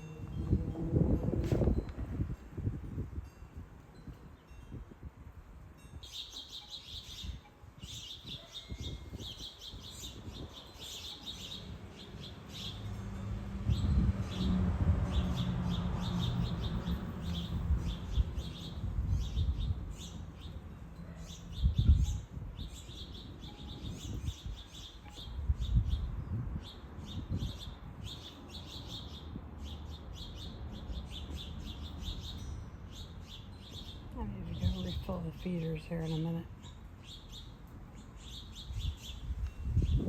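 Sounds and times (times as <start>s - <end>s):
wind rumbling on microphone: 0.0s - 6.1s, 7.0s - 20.8s, 21.5s - 31.6s, 34.0s - 36.5s, 38.5s - 40.0s
songbirds chirping: 4.0s - 40.0s.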